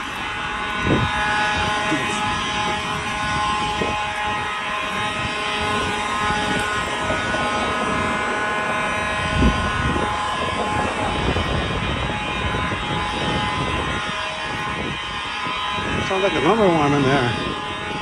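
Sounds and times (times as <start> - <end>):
low rumble: 0.0 - 16.1
fire alarm horns blaring: 0.0 - 18.0.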